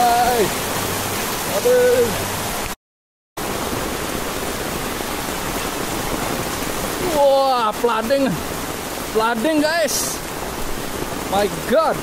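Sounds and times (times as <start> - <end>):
heavy rain pouring: 0.0 - 2.8, 3.4 - 12.0.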